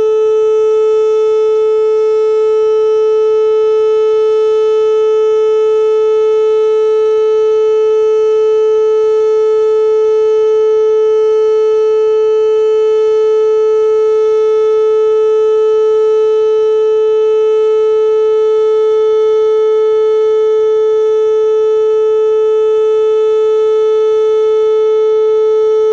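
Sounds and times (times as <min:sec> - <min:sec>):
steady warning siren tone: 0:00.0 - 0:25.9.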